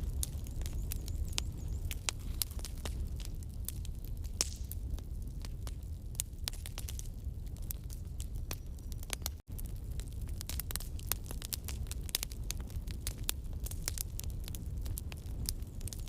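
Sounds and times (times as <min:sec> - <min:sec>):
campfire wood crackling: 0:00.0 - 0:16.0
low rumble of flame: 0:00.0 - 0:16.0.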